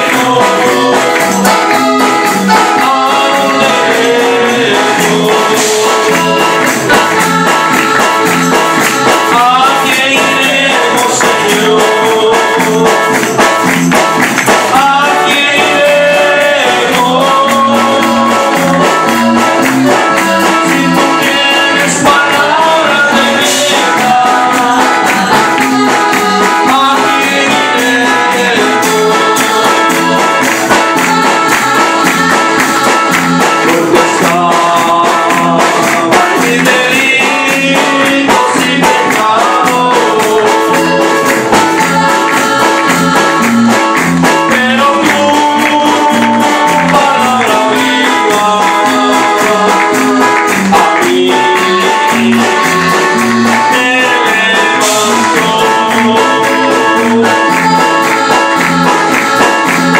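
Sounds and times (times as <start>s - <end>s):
drums: 0.0s - 59.9s
electric bass guitar: 0.0s - 59.9s
man singing into microphone: 0.0s - 59.9s.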